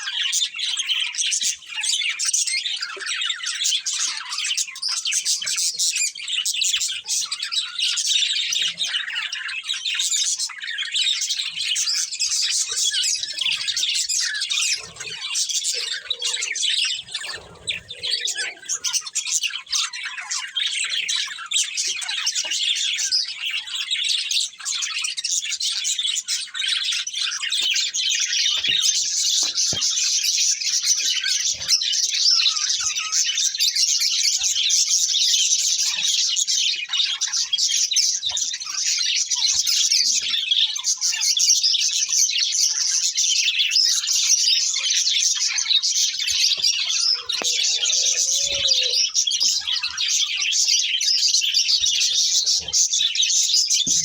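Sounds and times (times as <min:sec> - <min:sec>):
budgerigars chirping and warbling: 0:00.0 - 0:54.0.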